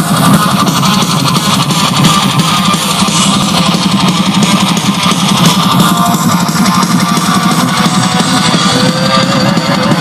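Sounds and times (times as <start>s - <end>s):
rock music through speakers: 0.0s - 10.0s.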